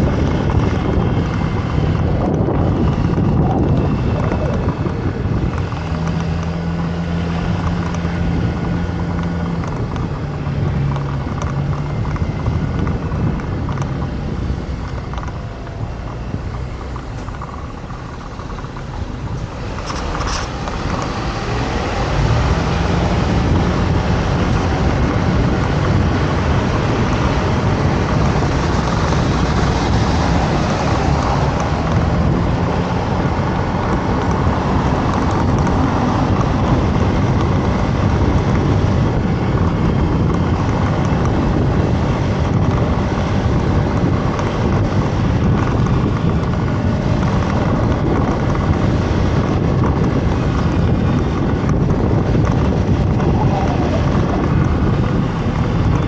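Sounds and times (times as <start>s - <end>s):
motor scooter engine: 0.0s - 56.0s
wind and road noise: 0.0s - 56.0s.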